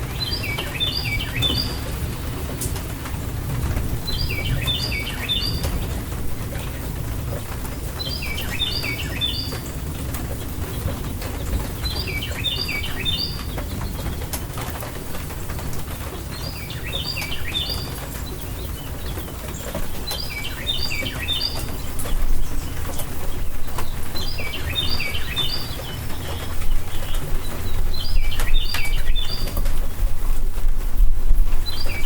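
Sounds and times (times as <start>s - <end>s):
rain rumble: 0.0s - 32.0s
dripping ticks: 0.3s - 29.9s.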